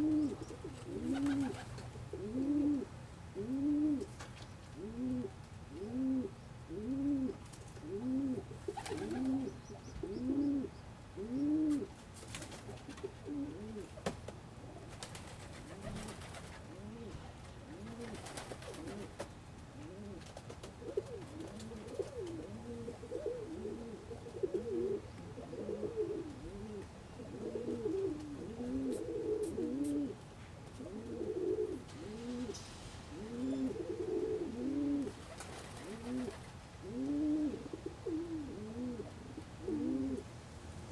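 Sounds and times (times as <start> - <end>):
pigeons cooing: 0.0 - 4.1, 4.7 - 11.9, 12.6 - 14.0, 15.5 - 19.2, 19.8 - 30.2, 30.8 - 40.3.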